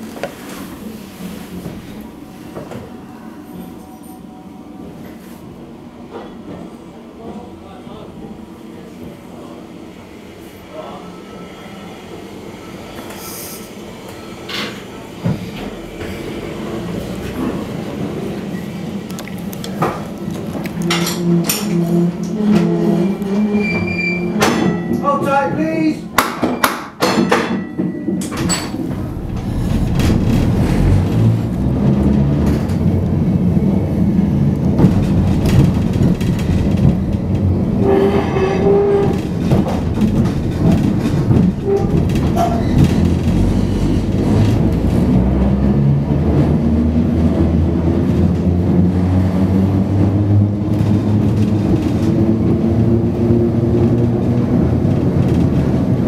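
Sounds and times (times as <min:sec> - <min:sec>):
tram wheels rumbling on rail: 0:00.0 - 0:56.0.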